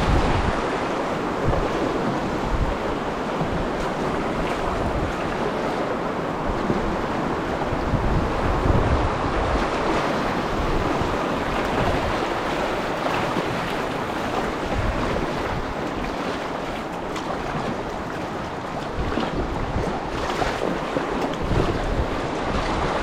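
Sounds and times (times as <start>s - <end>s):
river water rushing and splashing: 0.0s - 23.0s.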